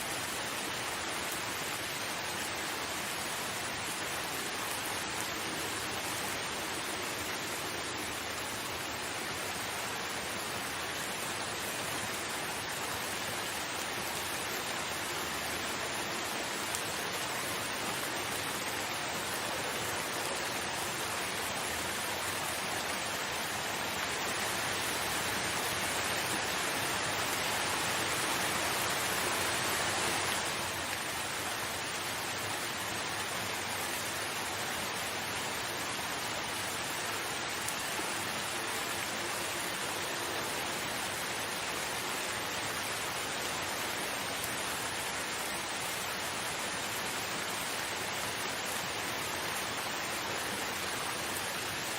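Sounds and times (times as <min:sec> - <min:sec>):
steady rain: 0:00.0 - 0:51.9.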